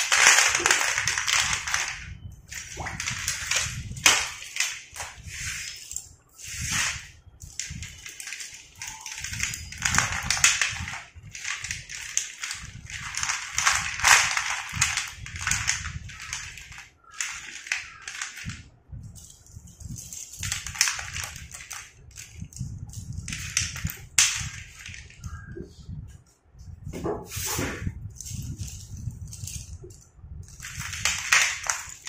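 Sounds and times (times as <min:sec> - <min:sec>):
slate pencils clattering: 0:00.0 - 0:25.5, 0:28.2 - 0:32.0.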